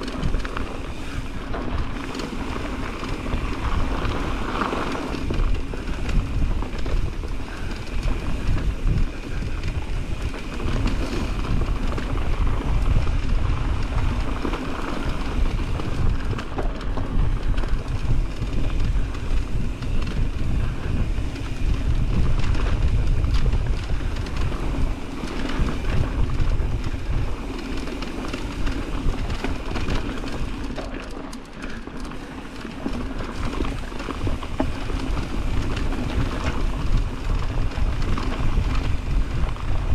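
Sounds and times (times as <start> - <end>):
bike rattling and clicking: 0.0 - 39.9
tyres rumbling on dirt: 0.0 - 39.9
wind on microphone: 0.0 - 39.9.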